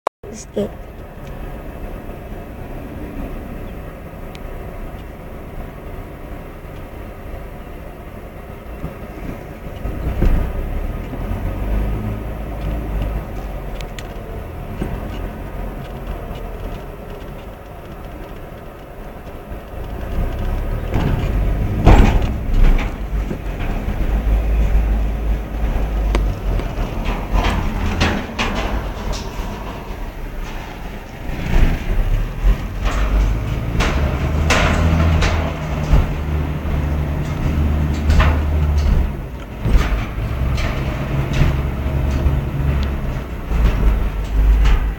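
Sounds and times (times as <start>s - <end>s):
tyres rumbling on metal grating: 0.6s - 44.9s
car clunking over ramp: 0.8s - 44.9s.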